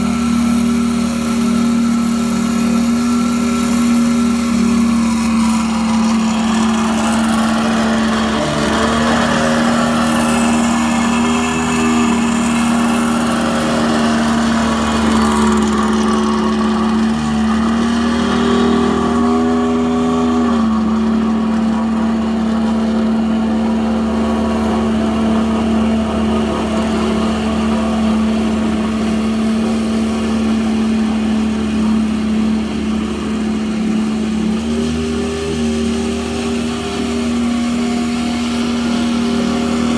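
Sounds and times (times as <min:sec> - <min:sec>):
small engine humming: 0:00.0 - 0:39.9.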